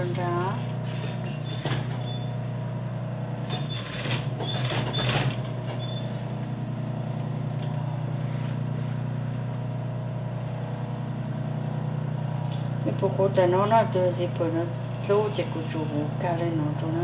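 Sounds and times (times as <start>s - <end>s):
sewing machine motor hum: 0.0s - 17.0s.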